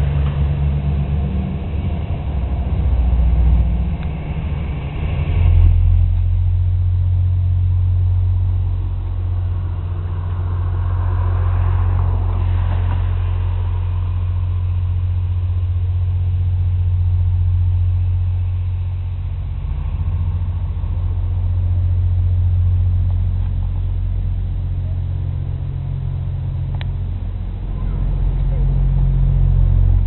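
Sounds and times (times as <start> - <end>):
ship diesel engine droning: 0.0 - 30.0.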